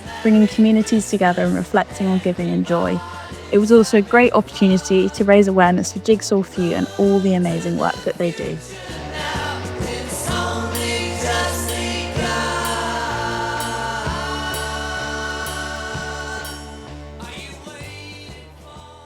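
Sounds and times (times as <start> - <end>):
choir-like vocal melody: 0.0 - 19.0
held bass line: 0.0 - 19.0.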